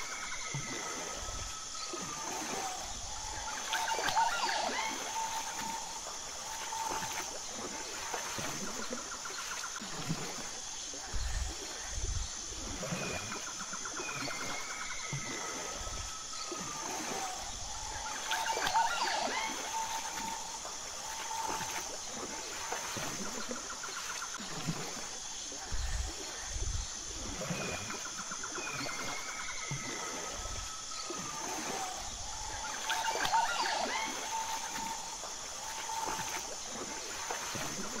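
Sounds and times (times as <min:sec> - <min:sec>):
chirping and whistling animal calls: 0:00.0 - 0:10.4, 0:11.1 - 0:24.9, 0:25.6 - 0:38.0
steady high-pitched whine: 0:00.0 - 0:38.0
water splashing and trickling: 0:00.0 - 0:38.0.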